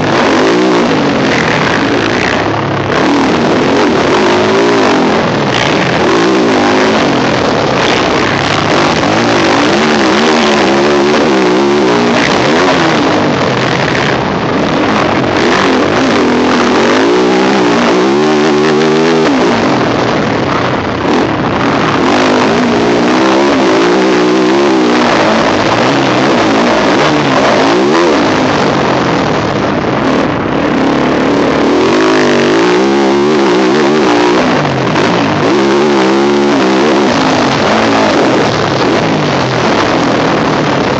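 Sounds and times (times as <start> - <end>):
loud rushing noise: 0.0 - 40.9
motocross engine revving: 0.0 - 40.9.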